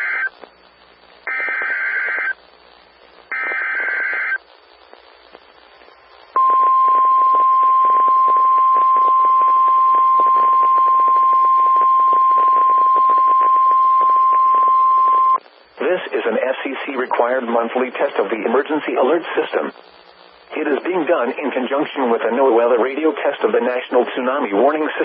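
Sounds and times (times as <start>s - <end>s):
faint radio hiss: 0.0s - 25.0s.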